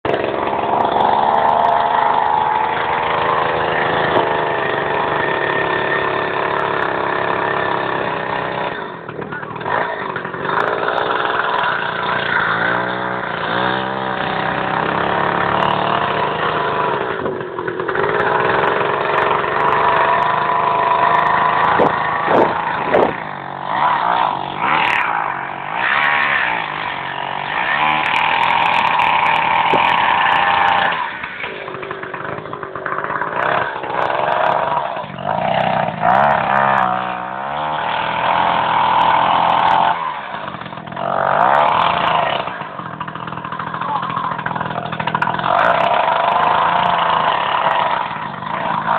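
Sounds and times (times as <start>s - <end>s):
chainsaw cutting frozen meat: 0.0s - 48.9s.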